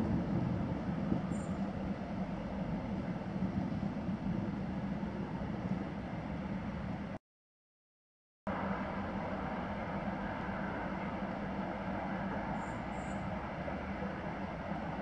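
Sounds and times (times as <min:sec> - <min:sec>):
steady outdoor rushing noise: 0:00.0 - 0:07.2, 0:08.5 - 0:15.0.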